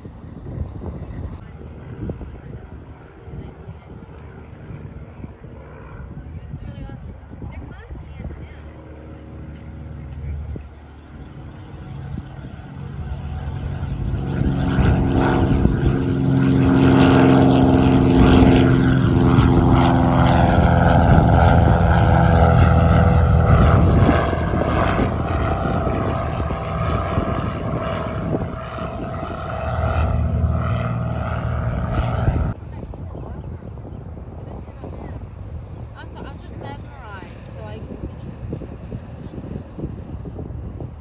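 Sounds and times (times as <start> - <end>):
propeller plane flying overhead: 0.0 - 41.0.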